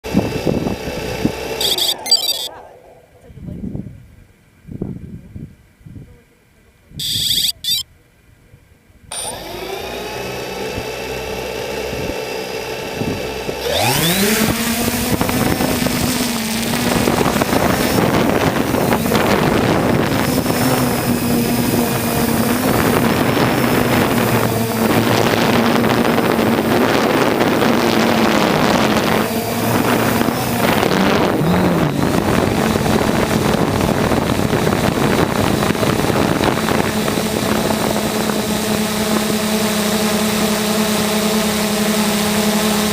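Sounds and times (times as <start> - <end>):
drone propeller buzz: 0.0 - 3.0, 7.0 - 7.8, 9.1 - 42.9.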